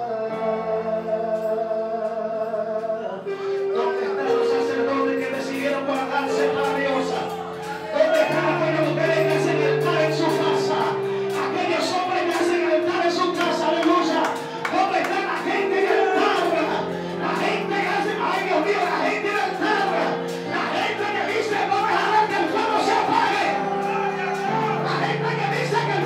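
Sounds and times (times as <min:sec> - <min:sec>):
held accompaniment chords: 0:00.0 - 0:26.0
man singing into a microphone: 0:00.0 - 0:26.0.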